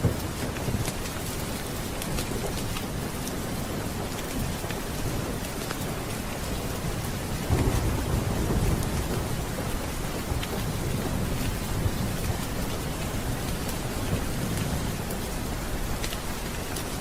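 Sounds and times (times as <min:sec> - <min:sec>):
thunder rumbling: 0:00.0 - 0:16.3
steady rain: 0:00.0 - 0:17.0.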